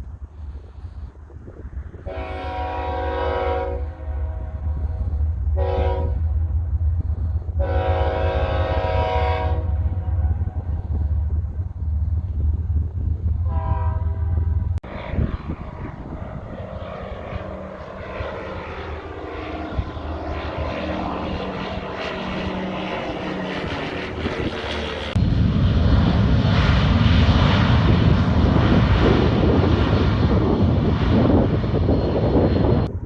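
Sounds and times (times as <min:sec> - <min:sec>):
propeller plane engine hum: 0:00.0 - 0:33.0
rushing aircraft engine noise: 0:00.0 - 0:33.0.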